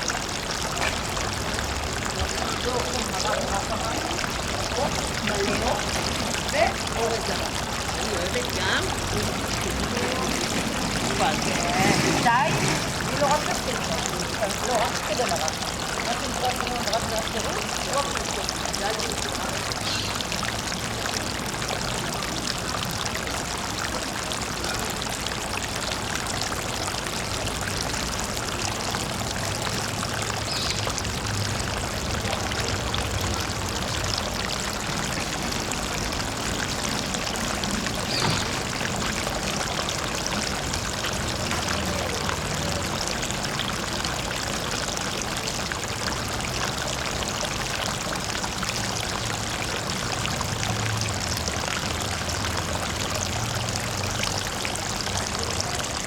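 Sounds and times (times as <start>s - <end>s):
waterfall pouring and splashing: 0.0s - 56.0s.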